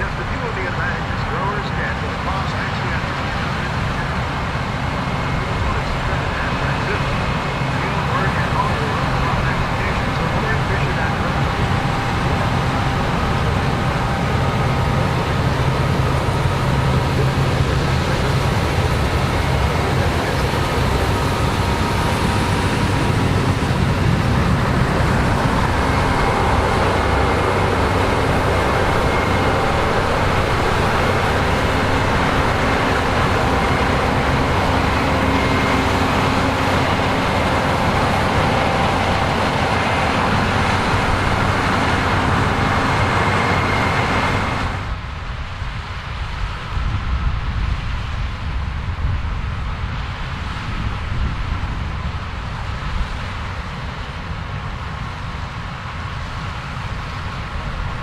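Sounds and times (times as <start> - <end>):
faint high whine: 0.0 - 47.4
diesel engines droning: 0.0 - 58.0.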